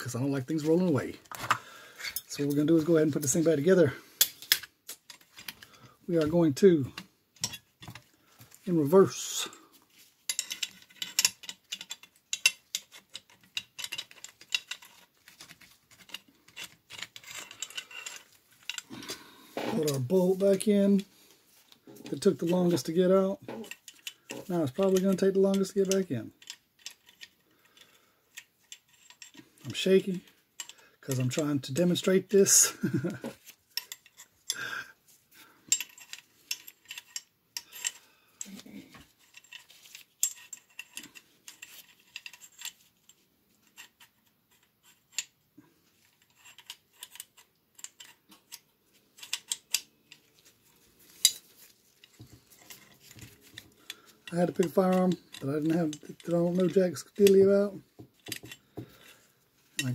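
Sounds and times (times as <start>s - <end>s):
metal parts clicking and tapping: 4.2s - 8.6s, 9.4s - 34.6s, 35.4s - 59.9s.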